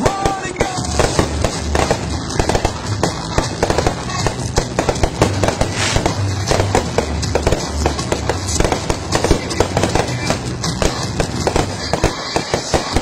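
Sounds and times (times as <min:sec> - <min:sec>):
firework pops and crackling bursts: 0:00.0 - 0:13.0.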